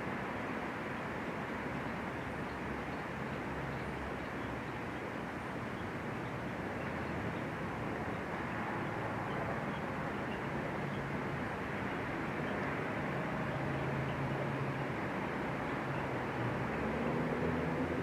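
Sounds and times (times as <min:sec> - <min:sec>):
outdoor hiss and rumble: 0:00.0 - 0:18.0.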